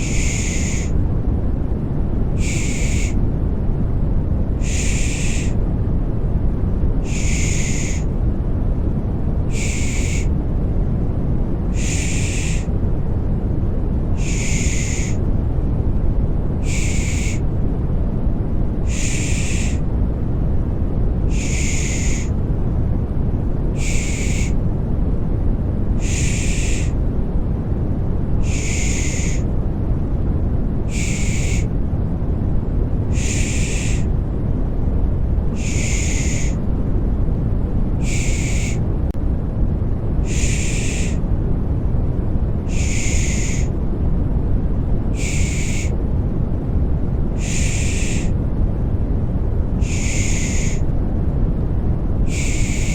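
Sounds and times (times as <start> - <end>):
low rushing white noise: 0.0 - 52.9.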